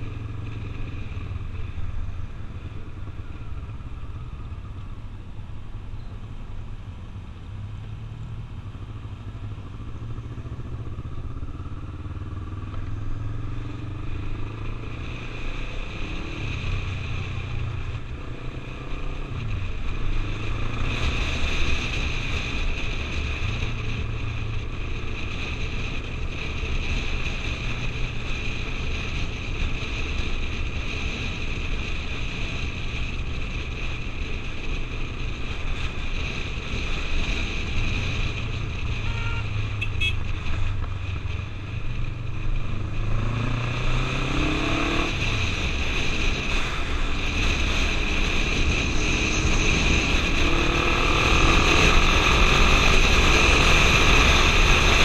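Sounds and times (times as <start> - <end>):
motorcycle engine running: 0.0 - 55.0
wind rushing over microphone: 6.6 - 55.0.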